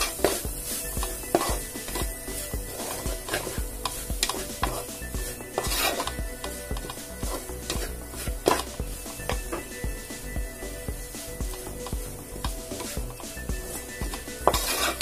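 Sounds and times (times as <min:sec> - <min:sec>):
spoon scraping a metal pot: 0:00.0 - 0:10.3, 0:12.7 - 0:15.0
soft sizzle: 0:00.0 - 0:15.0.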